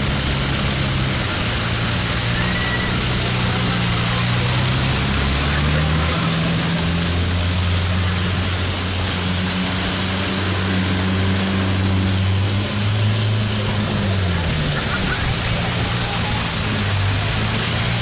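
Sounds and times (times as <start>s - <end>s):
boat engine running: 0.0s - 18.0s
water rushing and spraying: 0.0s - 18.0s.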